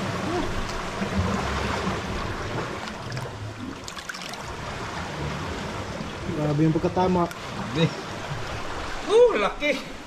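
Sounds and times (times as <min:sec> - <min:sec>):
sea water rushing: 0:00.0 - 0:10.0.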